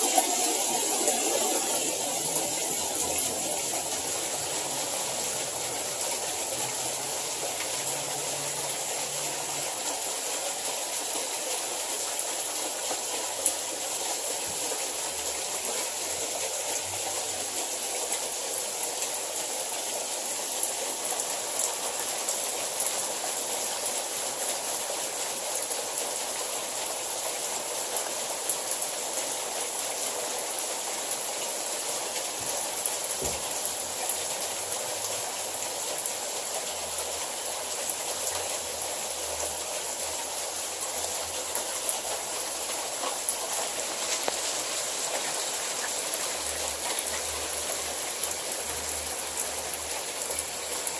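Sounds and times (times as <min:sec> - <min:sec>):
hail downpour: 0:00.0 - 0:50.9.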